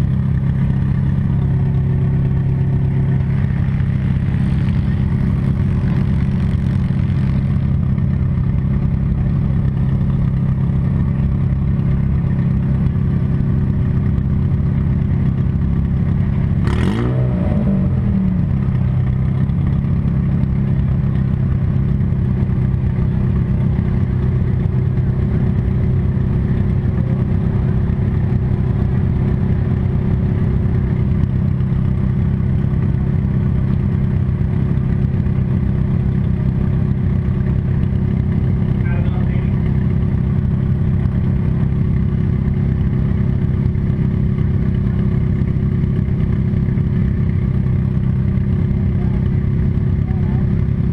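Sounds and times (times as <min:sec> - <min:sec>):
car engine running: 0:00.0 - 0:50.9.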